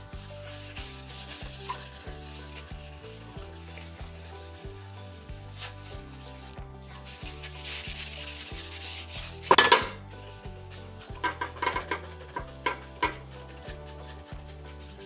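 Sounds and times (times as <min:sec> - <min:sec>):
paper wiping a steel griddle: 0:00.0 - 0:15.0.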